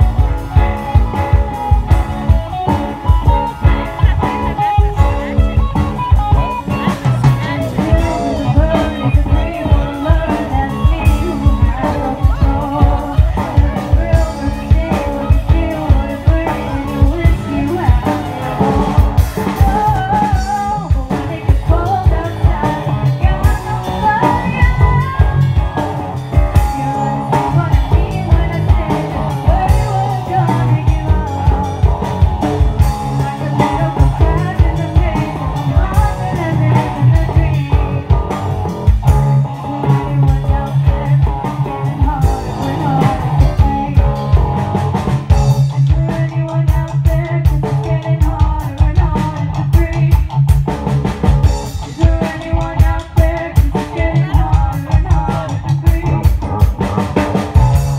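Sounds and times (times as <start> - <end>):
live rock band playing: 0.0 - 57.9
woman singing: 0.0 - 57.9.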